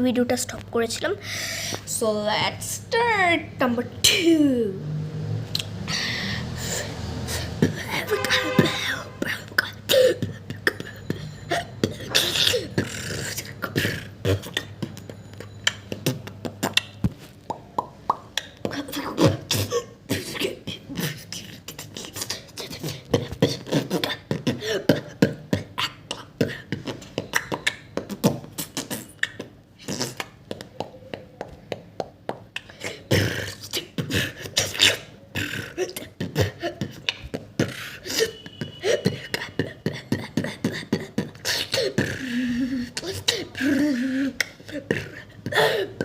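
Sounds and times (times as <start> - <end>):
person beatboxing: 5.6 - 46.0.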